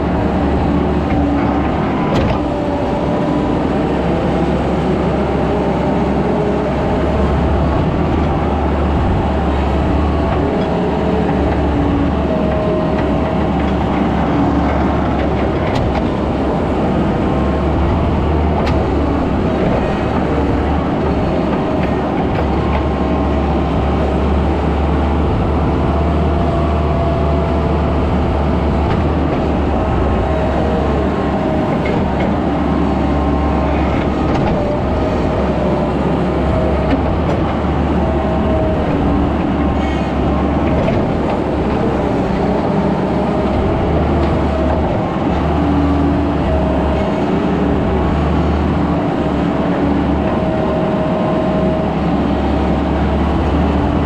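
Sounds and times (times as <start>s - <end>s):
skid steer engine drone: 0.0s - 54.0s.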